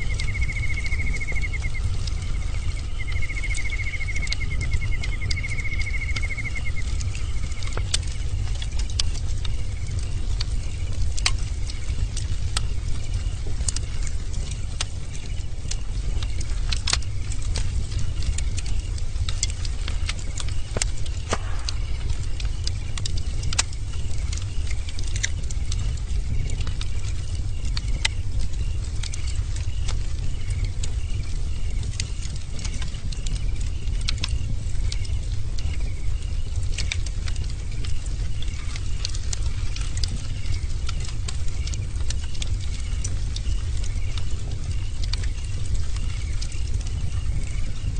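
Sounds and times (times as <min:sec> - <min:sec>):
low rumble of flames: 0:00.0 - 0:47.9
wood crackling and popping: 0:00.0 - 0:47.9.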